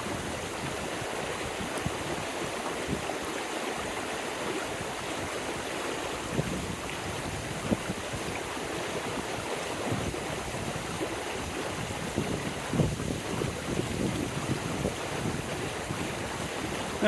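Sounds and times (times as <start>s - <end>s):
wind buffeting microphone: 0.0s - 3.2s, 6.2s - 17.0s
stream water running: 0.0s - 17.0s.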